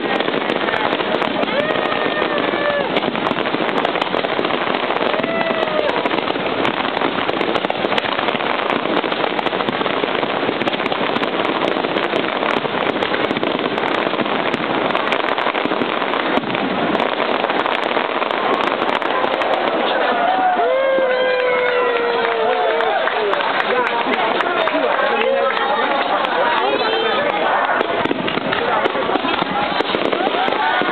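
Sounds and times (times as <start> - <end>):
fireworks crackling: 0.0 - 30.9.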